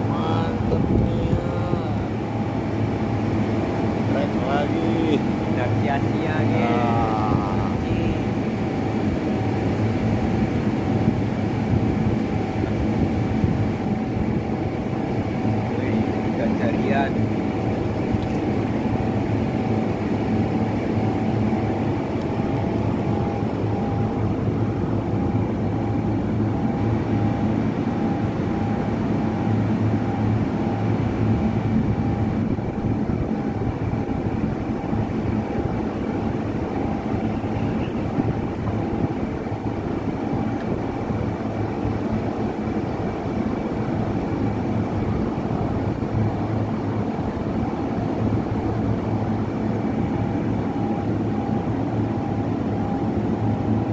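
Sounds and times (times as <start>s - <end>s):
high machine whine: 0.0s - 53.9s
machinery low drone: 0.0s - 53.9s.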